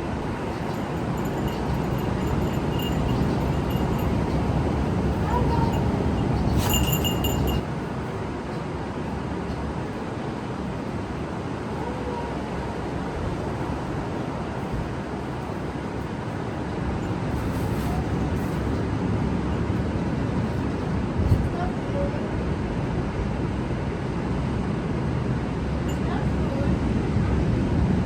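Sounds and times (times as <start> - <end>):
vehicle and road noise: 0.0 - 28.0.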